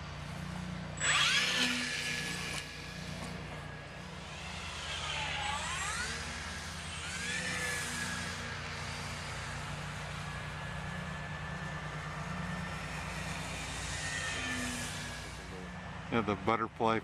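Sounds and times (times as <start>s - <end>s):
model plane motor and propeller whine: 0.0s - 17.0s.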